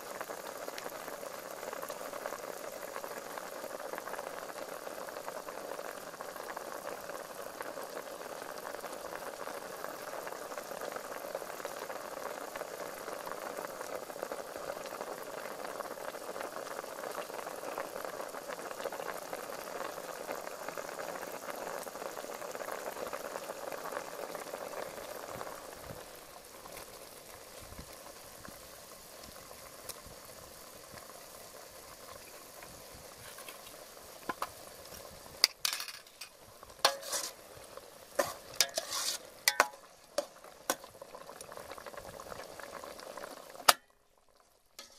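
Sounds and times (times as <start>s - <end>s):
soup boiling and bubbling: 0.0s - 44.9s.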